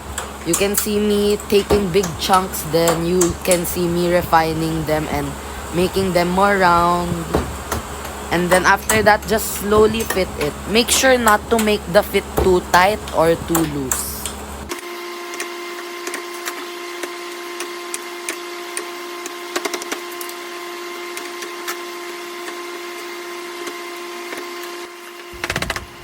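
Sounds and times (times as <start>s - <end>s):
steady hum: 0.0s - 14.8s, 15.7s - 26.0s.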